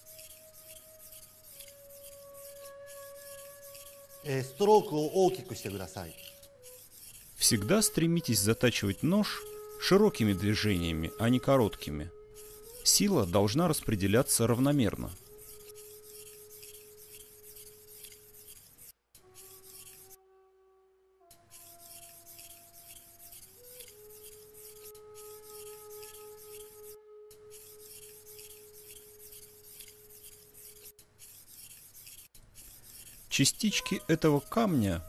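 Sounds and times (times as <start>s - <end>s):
knife blade scraping on whetstone: 0.0s - 20.2s, 21.4s - 34.9s.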